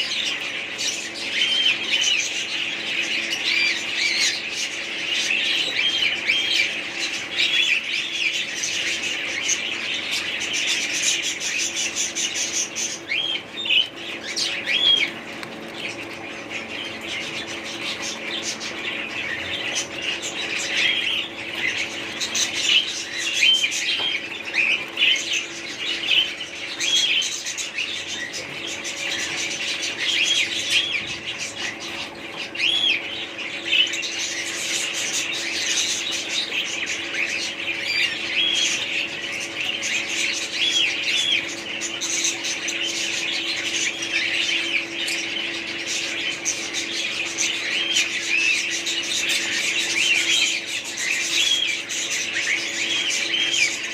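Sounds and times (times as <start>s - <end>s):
parrots chattering and squawking: 0.0s - 53.9s.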